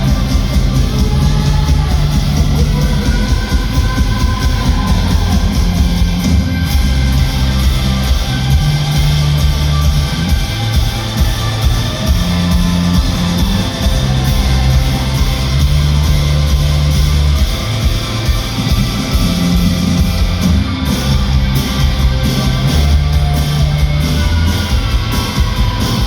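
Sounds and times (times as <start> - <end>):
bass notes: 0.0 - 26.0
electric guitars: 0.0 - 26.0
rock band playing live: 0.0 - 26.0.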